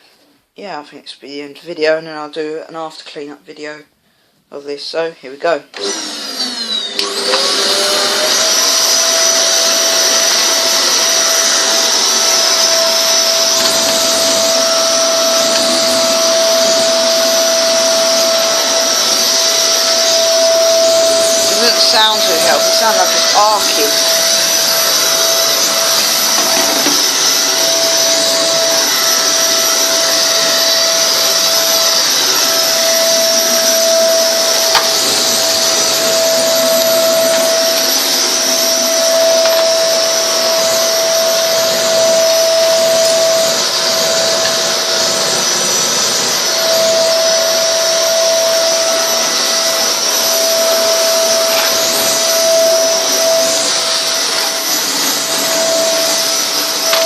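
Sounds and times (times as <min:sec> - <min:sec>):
vacuum cleaner running: 0:05.7 - 0:57.0
vacuum motor popping: 0:05.8 - 0:57.0.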